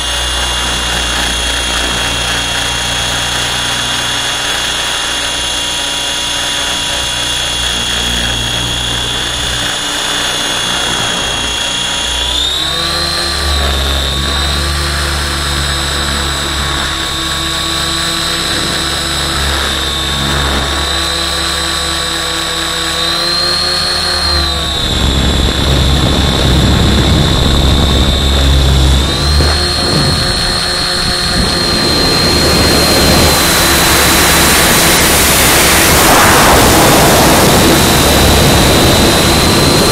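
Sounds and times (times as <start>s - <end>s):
rushing wind: 0.0s - 22.7s, 23.3s - 39.9s
low rotor drone: 0.0s - 39.9s
rc helicopter high whine: 0.0s - 39.9s.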